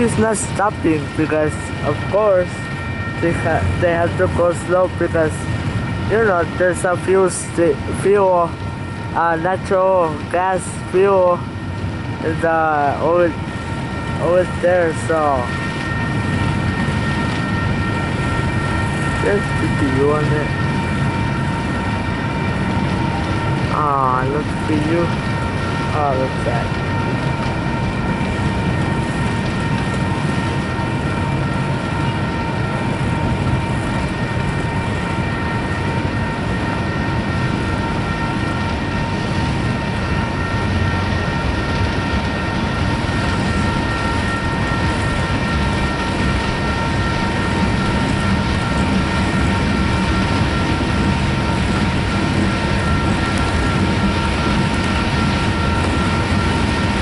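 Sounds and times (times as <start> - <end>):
high whine: 0.0 - 57.0
train wheels rumbling on rail: 0.0 - 57.0.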